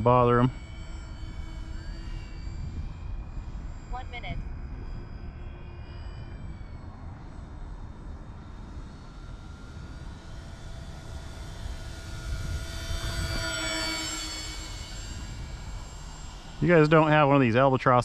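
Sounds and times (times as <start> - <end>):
model plane motors whining: 0.0 - 18.0.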